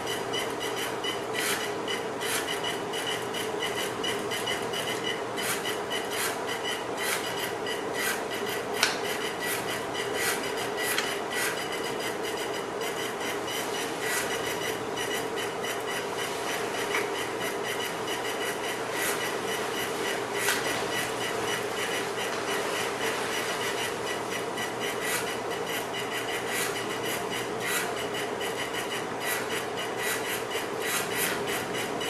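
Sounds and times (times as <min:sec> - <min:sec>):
small motors whirring: 0:00.6 - 0:32.0.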